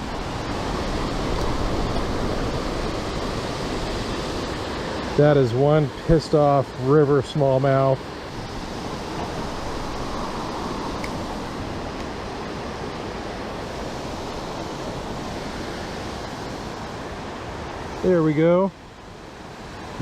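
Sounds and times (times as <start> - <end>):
water rushing over falls: 0.0 - 20.0.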